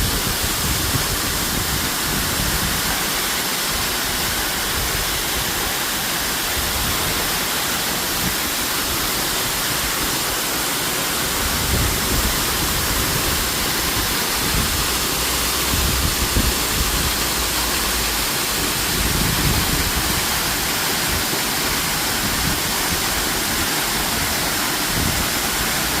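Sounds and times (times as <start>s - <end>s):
waterfall rushing and splashing: 0.0s - 26.0s.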